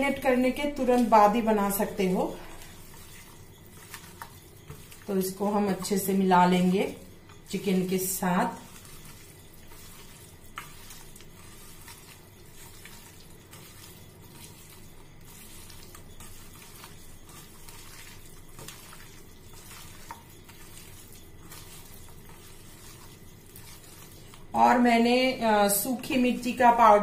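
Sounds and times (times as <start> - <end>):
wet hand mixing of meat: 0.0 - 27.0.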